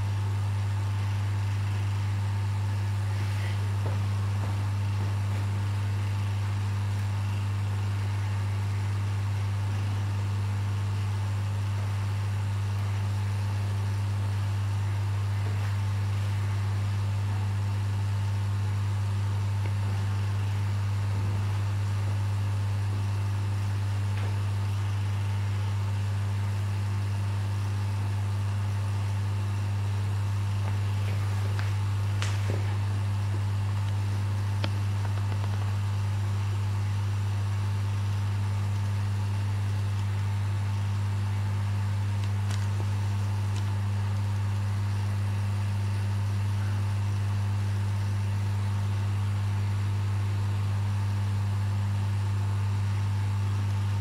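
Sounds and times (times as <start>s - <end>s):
aquarium pump humming: 0.0s - 54.0s.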